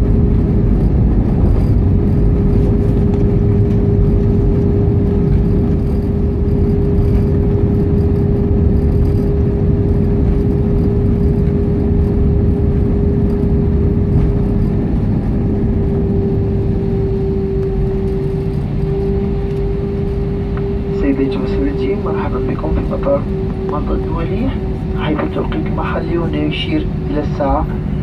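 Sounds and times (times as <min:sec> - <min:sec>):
airplane rumbling on runway: 0:00.0 - 0:28.0
constant whine: 0:00.0 - 0:28.0.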